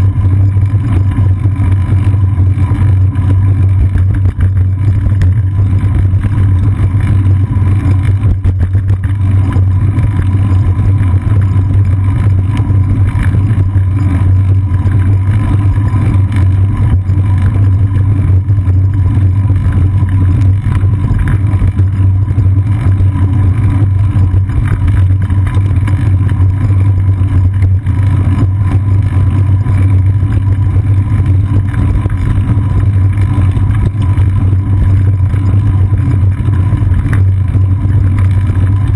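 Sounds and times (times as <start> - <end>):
bicycle rolling road vibration: 0.0 - 38.9.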